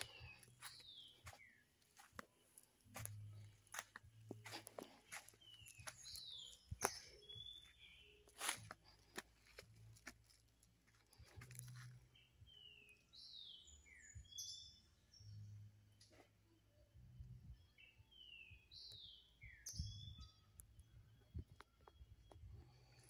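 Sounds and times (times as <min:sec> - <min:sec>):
bird chirping: 0:00.0 - 0:09.5, 0:11.1 - 0:16.2, 0:17.0 - 0:23.0.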